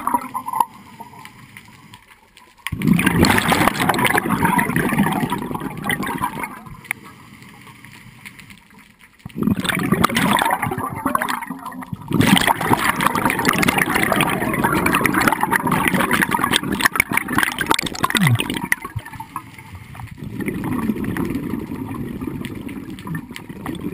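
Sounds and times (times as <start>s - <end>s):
underwater regulator bubbles: 0.0s - 2.0s, 2.6s - 23.9s.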